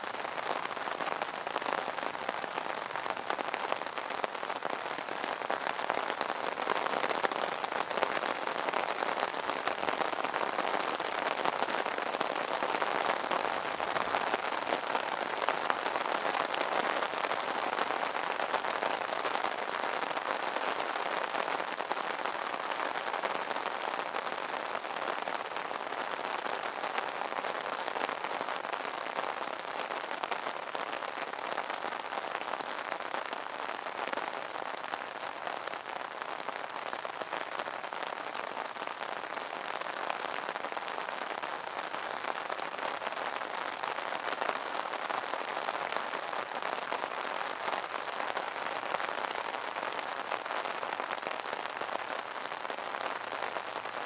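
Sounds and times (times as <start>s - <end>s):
rain pattering on umbrella: 0.0s - 54.0s.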